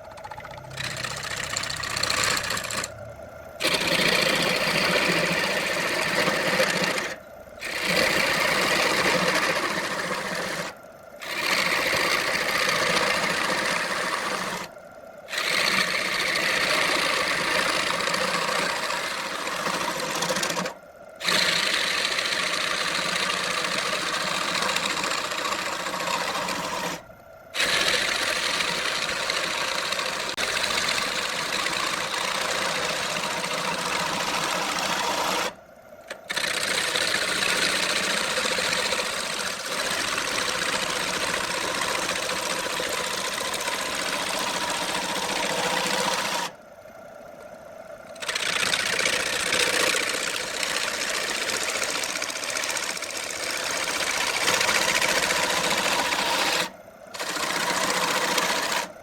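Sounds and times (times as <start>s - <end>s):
wood lathe cutting wood: 0.0s - 2.9s, 3.6s - 14.7s, 15.3s - 27.0s, 27.6s - 46.6s, 48.1s - 59.0s.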